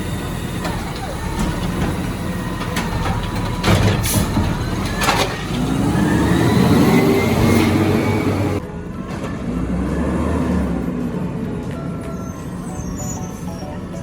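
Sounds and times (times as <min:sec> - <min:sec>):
truck engine running with whine: 0:00.0 - 0:14.0.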